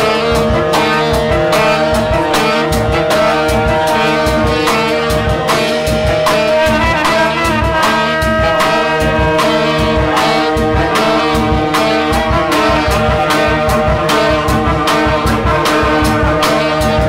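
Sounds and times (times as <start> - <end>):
saxophones and trumpet melody: 0.0 - 17.0
steady drum beat: 0.0 - 17.0.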